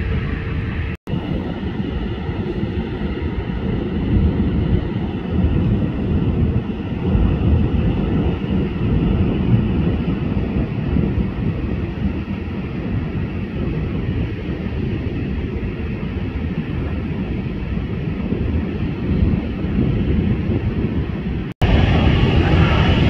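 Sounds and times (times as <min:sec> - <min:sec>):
jet engines rumbling: 0:00.0 - 0:23.0
wind buffeting microphone: 0:00.0 - 0:23.0.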